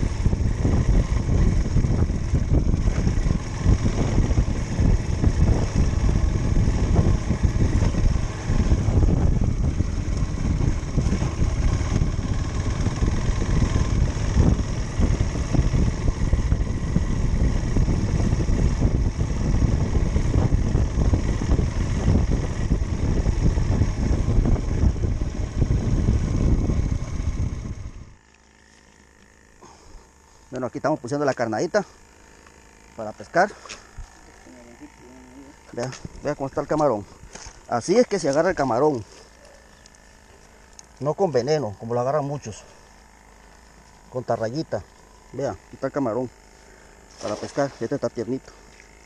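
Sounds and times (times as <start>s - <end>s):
motor running low rumble: 0.0s - 49.0s.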